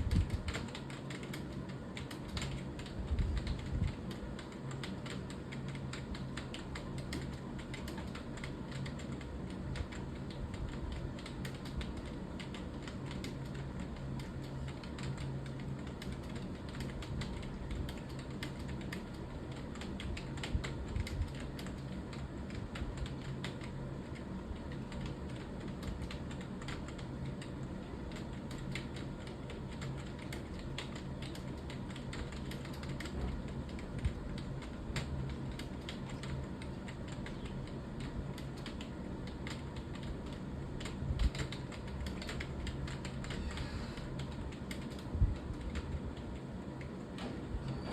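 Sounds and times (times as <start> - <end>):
rapid typing on keyboard: 0.0 - 47.6
low steady hum: 0.0 - 47.9.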